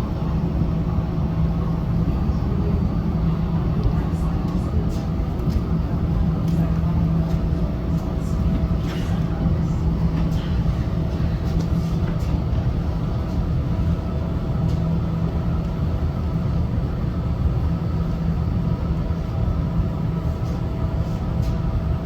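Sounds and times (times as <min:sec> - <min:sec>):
low rumble and hum: 0:00.0 - 0:22.0.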